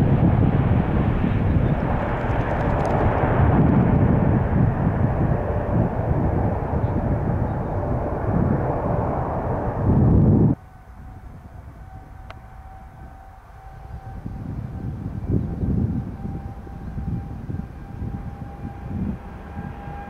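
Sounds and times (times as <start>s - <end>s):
jet engines rumbling loudly: 0.0s - 20.0s
jet engines whining: 0.0s - 20.0s.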